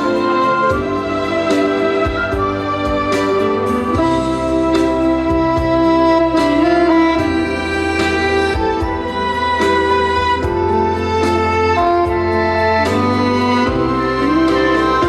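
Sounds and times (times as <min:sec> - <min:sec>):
trot backing track over pa: 0:00.0 - 0:15.0
violin-like string melody: 0:00.0 - 0:15.0.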